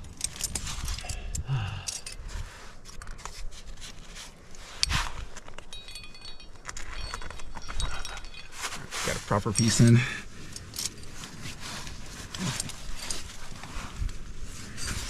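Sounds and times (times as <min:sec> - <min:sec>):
metal climbing gear clinking: 0:00.0 - 0:15.0.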